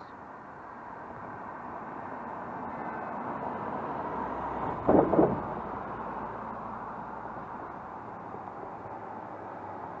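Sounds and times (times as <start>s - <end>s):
cars driving past: 0.2s - 10.0s.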